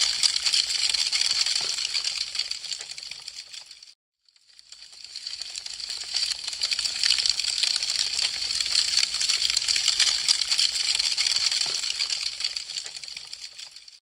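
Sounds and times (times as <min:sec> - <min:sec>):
wood fire crackling: 0:00.0 - 0:03.9, 0:04.6 - 0:14.0.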